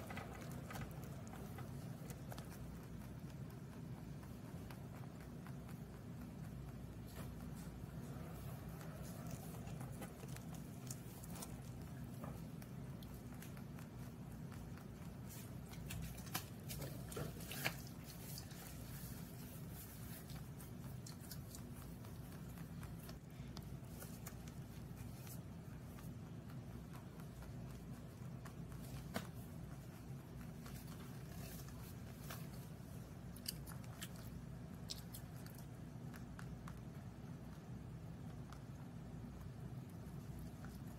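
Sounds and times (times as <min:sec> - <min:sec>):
low steady hum: 0:00.0 - 0:40.9
rabbit chewing: 0:00.0 - 0:40.9.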